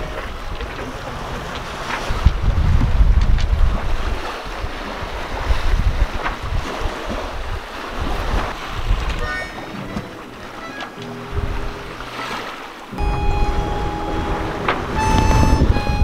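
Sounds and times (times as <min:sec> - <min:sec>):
wind buffeting microphone: 0:00.0 - 0:10.3, 0:11.1 - 0:12.2, 0:12.9 - 0:16.0
waves against boat hull: 0:00.0 - 0:16.0.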